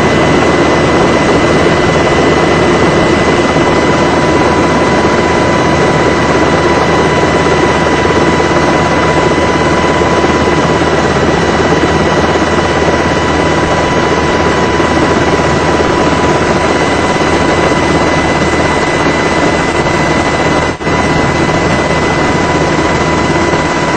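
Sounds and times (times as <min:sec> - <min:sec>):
helicopter rotor and turbine noise: 0:00.0 - 0:23.9
high turbine whine: 0:00.0 - 0:23.9.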